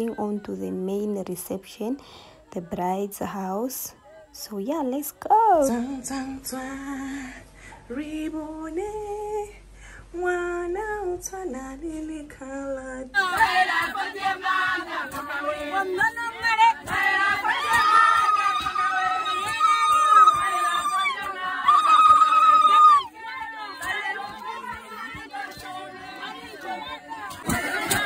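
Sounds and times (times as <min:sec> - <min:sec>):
group of women singing: 0:00.0 - 0:01.9, 0:02.5 - 0:09.6, 0:10.2 - 0:28.0
woman singing: 0:00.0 - 0:28.0.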